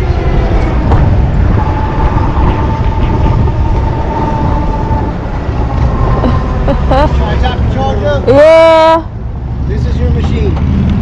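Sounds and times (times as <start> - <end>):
steady whine: 0.0 - 9.9
motorcycle road noise: 0.0 - 11.0
wind buffeting: 0.0 - 11.0.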